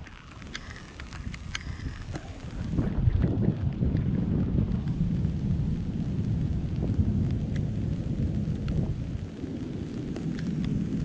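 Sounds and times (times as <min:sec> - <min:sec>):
raindrops ticking: 0:00.0 - 0:11.0
thunder rumbling: 0:00.0 - 0:11.0.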